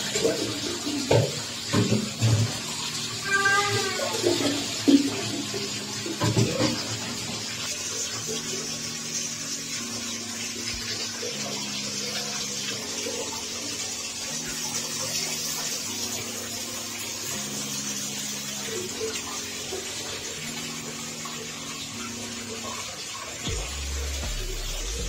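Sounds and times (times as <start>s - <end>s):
water running from a tap: 0.0s - 25.0s.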